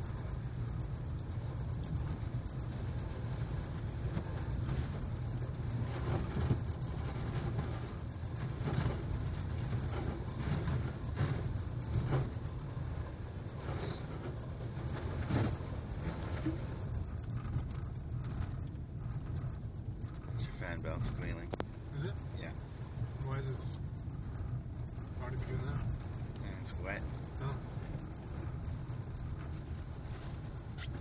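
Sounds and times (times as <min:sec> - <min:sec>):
tyres and engine rumbling: 0:00.0 - 0:31.0.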